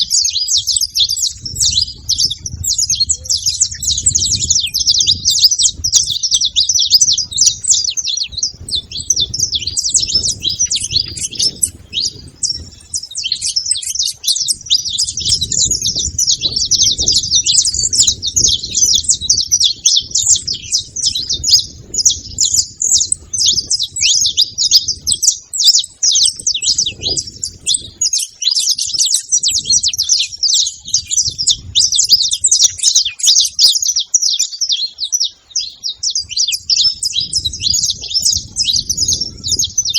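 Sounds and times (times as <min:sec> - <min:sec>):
finch chirping and singing: 0:00.0 - 0:39.9.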